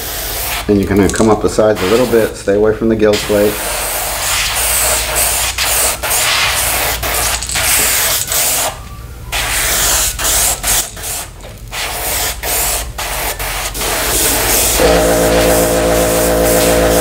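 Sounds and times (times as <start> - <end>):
airbrush hissing: 0.0 - 0.8, 1.6 - 2.4, 3.2 - 17.0.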